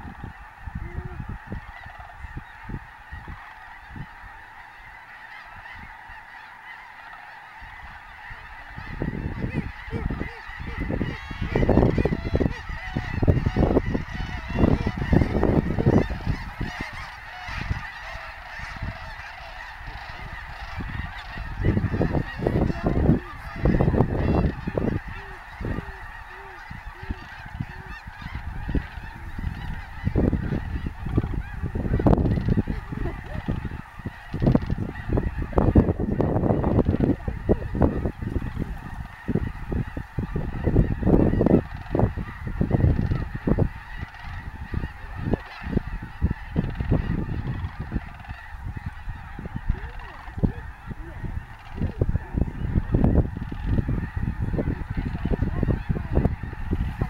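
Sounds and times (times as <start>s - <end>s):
low gusty rumbles: 0.0s - 6.3s, 7.5s - 57.0s
geese honking: 0.0s - 57.0s.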